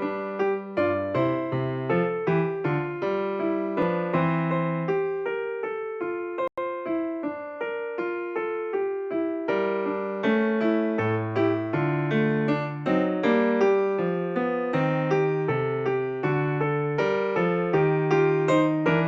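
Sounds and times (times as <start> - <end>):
keyboard playing notes: 0.0 - 19.0.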